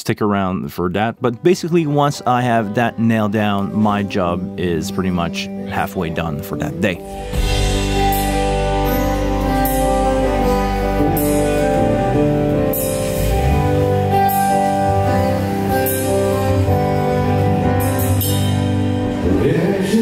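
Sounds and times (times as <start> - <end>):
deep steady bass: 0.7 - 20.0
sustained chords: 1.2 - 20.0.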